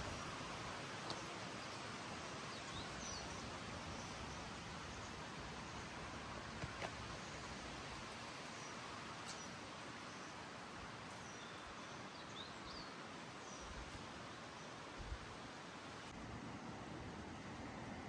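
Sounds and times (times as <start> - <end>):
steady forest hiss: 0.0 - 18.0.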